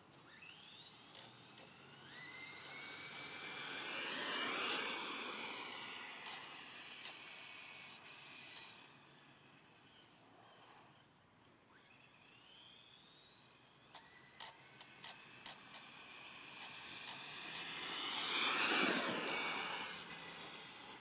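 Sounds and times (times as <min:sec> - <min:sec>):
rc truck motor whine: 0:00.0 - 0:21.0.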